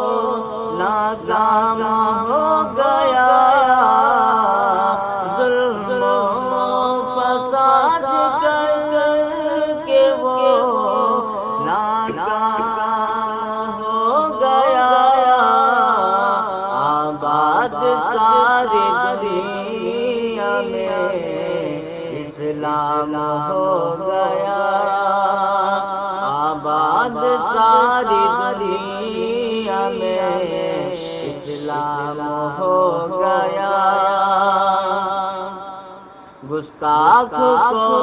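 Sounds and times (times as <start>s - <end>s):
man chanting a melody: 0.0s - 38.0s.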